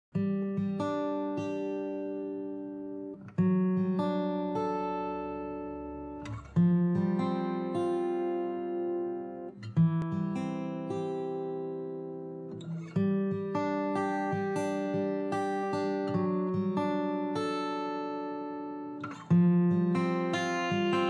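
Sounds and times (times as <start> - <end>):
plucked acoustic guitar: 0.1 - 21.0.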